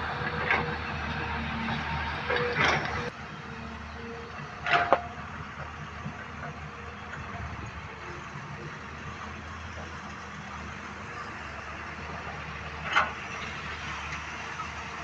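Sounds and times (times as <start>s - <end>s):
excavator diesel engine drone: 0.0s - 15.0s.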